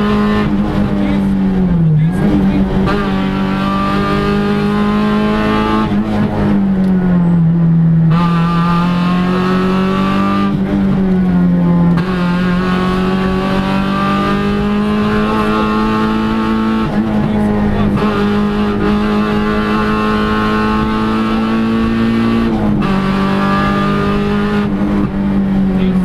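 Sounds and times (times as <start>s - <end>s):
rally car engine running hard: 0.0s - 26.0s.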